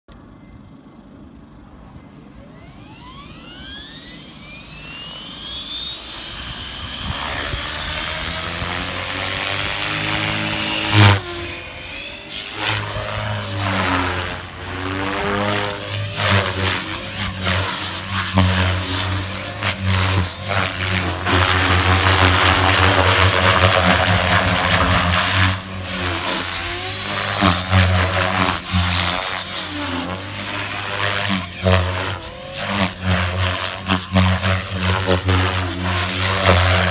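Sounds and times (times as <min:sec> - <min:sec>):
rc helicopter motor whine: 0:00.3 - 0:36.9
rotor blade noise: 0:02.4 - 0:36.9.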